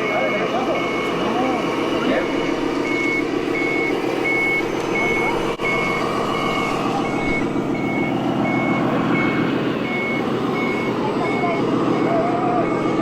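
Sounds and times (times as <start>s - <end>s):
engine-like drone: 0.0s - 13.0s
reversing beeper short beeps: 0.0s - 13.0s.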